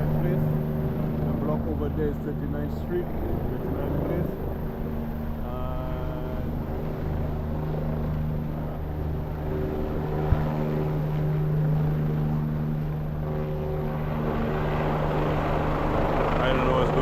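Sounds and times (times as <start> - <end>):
helicopter hovering: 0.0 - 17.0.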